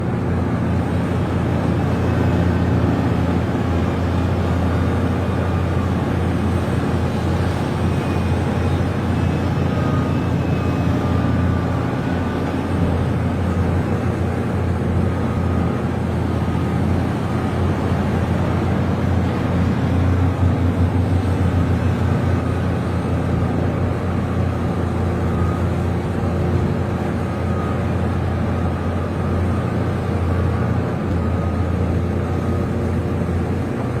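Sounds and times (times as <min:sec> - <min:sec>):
excavator diesel engine drone: 0:00.0 - 0:34.0.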